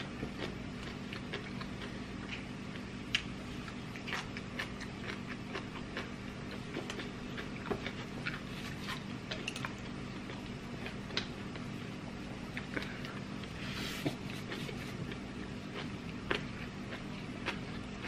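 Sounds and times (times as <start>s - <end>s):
chewing and lip-smacking: 0.0s - 11.8s, 14.2s - 18.0s
steady low hum: 0.0s - 18.0s.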